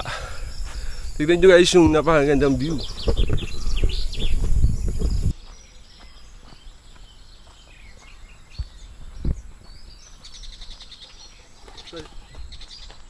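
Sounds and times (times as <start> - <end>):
wind buffeting microphone: 0.0 - 11.0
birds chirping: 0.0 - 13.0.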